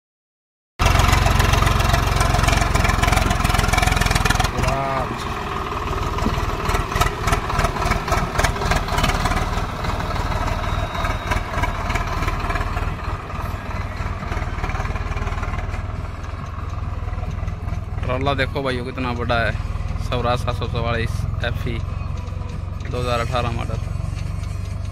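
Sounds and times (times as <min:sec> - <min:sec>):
tractor diesel engine pulling load: 0:00.8 - 0:24.9.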